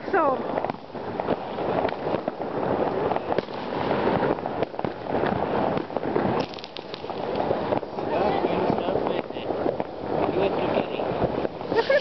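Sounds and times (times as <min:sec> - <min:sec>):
fireworks bangs and pops: 0:00.0 - 0:12.0
sharp firework cracks: 0:00.0 - 0:12.0.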